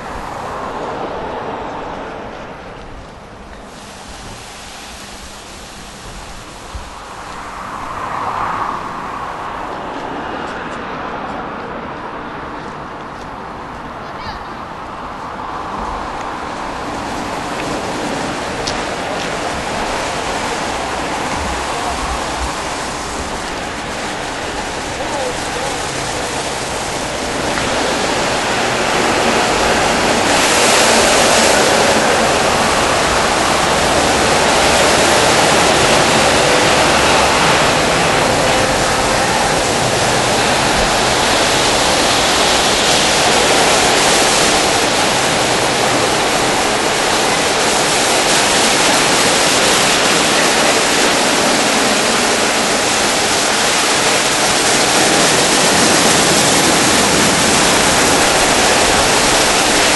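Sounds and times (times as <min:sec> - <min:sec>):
car wash spraying water: 0:00.0 - 0:11.1, 0:14.6 - 0:59.9.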